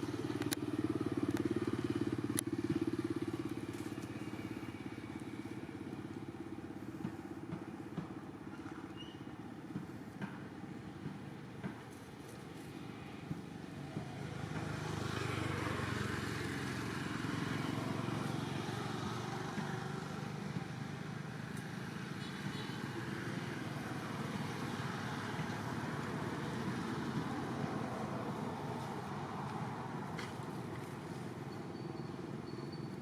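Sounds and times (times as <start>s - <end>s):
motor vehicle rumbling: 0.0s - 33.0s.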